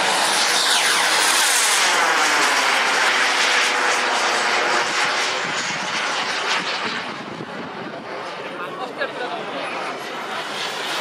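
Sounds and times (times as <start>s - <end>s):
model jet turbine rushing overhead: 0.0s - 11.0s.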